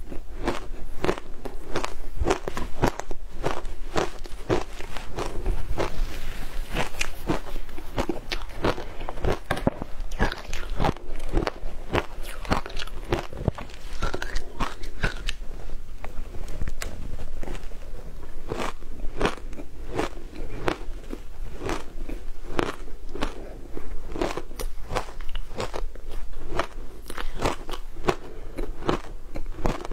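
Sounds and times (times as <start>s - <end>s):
ice being bitten and chewed: 0.0s - 15.6s, 16.5s - 29.9s.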